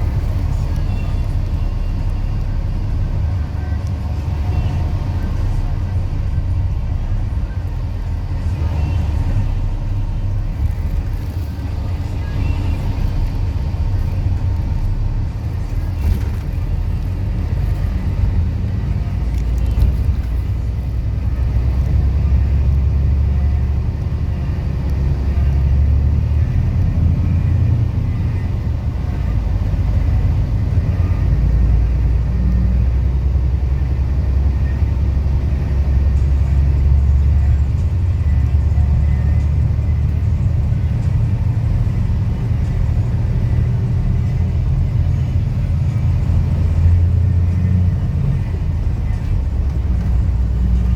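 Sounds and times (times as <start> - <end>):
vehicle engine rumbling: 0.0 - 50.9.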